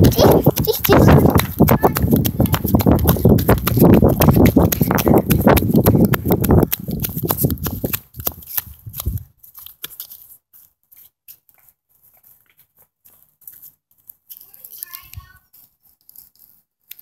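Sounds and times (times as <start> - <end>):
running footfalls: 0.0 - 14.5.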